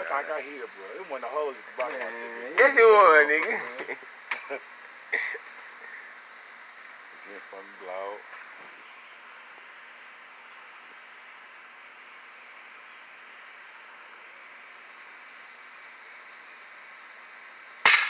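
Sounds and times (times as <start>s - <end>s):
insect chorus: 0.0s - 18.0s
soft steady hiss: 0.0s - 18.0s.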